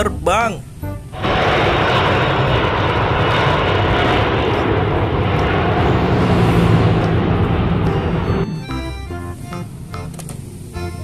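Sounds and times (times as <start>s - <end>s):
jet engines roaring: 1.0s - 11.0s.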